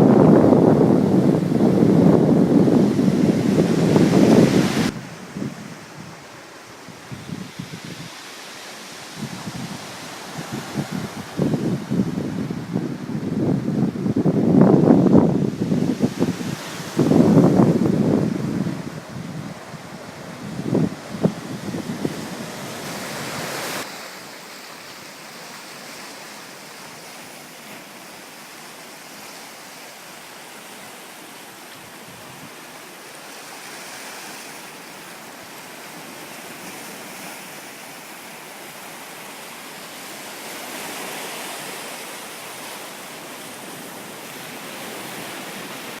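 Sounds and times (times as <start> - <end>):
wind: 0.0 - 46.0.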